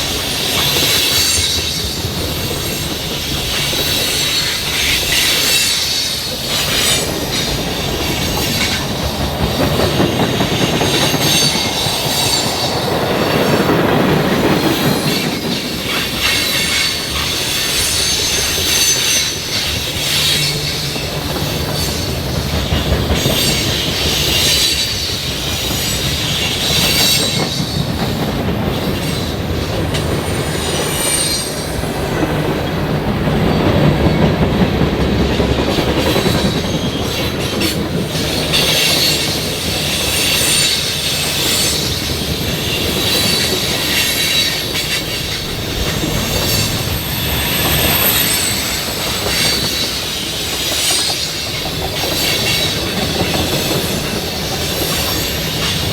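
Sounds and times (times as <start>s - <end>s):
wheels clacking over rail joints: 0.0s - 55.9s.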